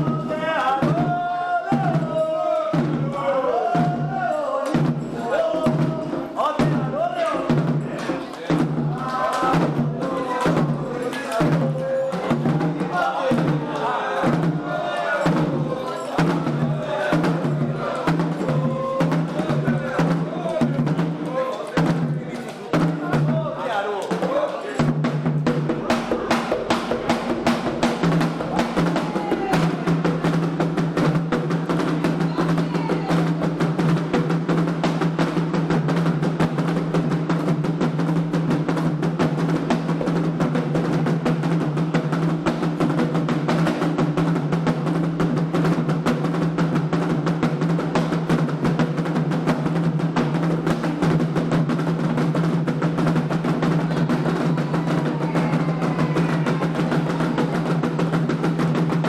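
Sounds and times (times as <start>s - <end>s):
hand drums playing fast rhythm: 0.0s - 59.0s.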